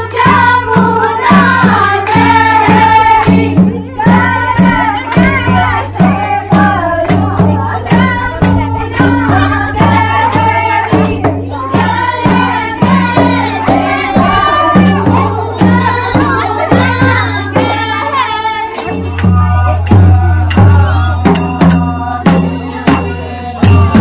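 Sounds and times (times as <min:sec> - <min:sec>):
group singing folk song: 0:00.0 - 0:24.0
percussion beat: 0:00.0 - 0:24.0.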